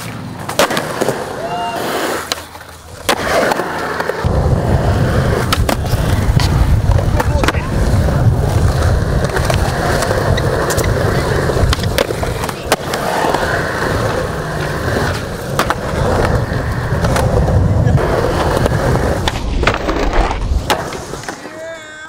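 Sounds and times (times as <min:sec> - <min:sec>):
skateboard clacks: 0:00.0 - 0:22.0
skateboard wheels rolling on concrete: 0:00.0 - 0:22.0.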